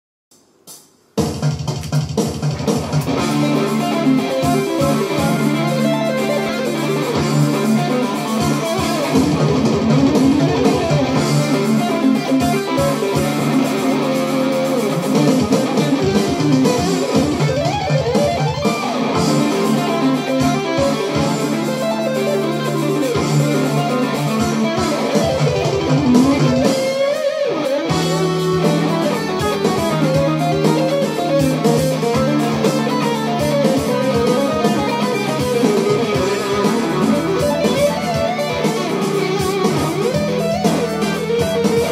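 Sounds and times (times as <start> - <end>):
electric guitar lead lines: 2.6 - 41.9.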